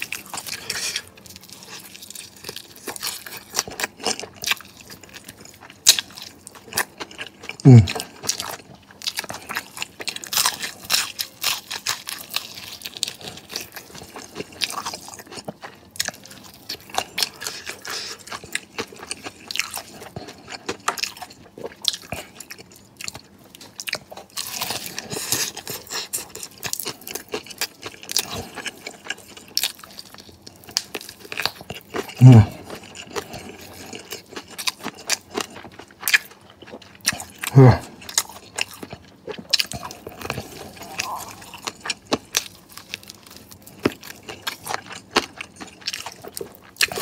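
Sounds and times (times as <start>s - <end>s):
crunching and chewing food: 0.0s - 47.0s.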